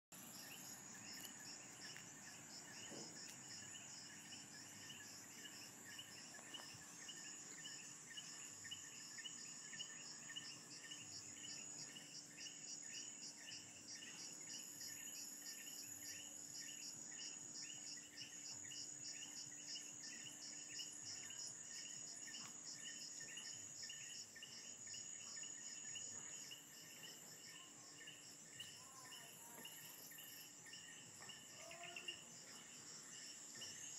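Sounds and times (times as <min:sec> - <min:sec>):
insects trilling: 0:00.2 - 0:33.9.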